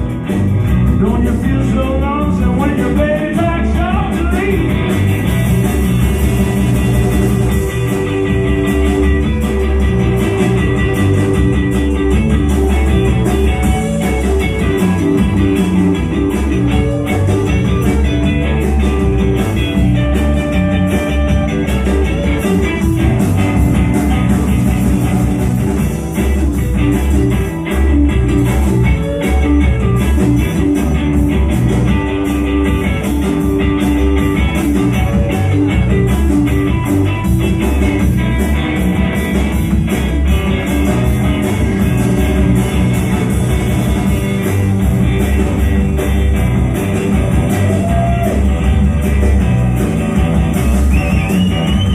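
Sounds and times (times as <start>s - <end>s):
bass guitar: 0.0s - 51.9s
drum kit steady beat: 0.0s - 51.9s
electric guitar: 0.0s - 51.9s.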